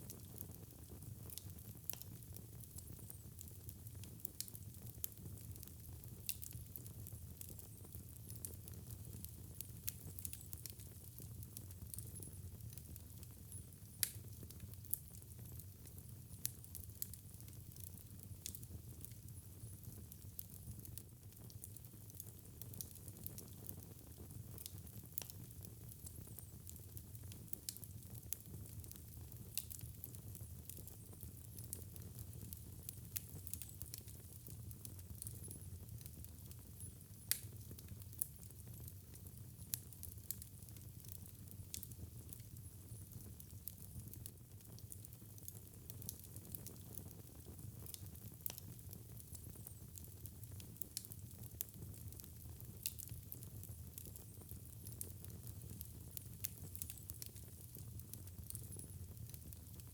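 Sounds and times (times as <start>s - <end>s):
fire crackling and popping: 0.0s - 59.9s
low rumble of burning: 0.0s - 59.9s.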